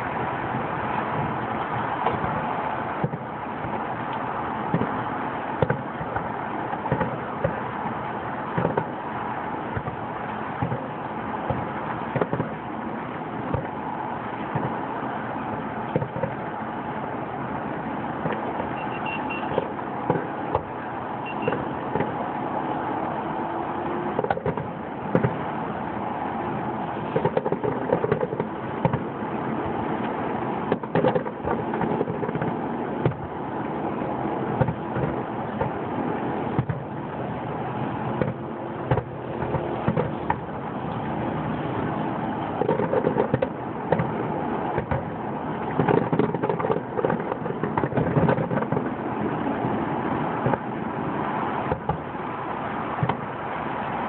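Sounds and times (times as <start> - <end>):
constant rushing noise: 0.0 - 54.0
fireworks popping and banging: 0.4 - 17.0, 17.6 - 20.8, 21.4 - 22.3, 24.1 - 25.7, 26.4 - 52.3, 52.9 - 54.0.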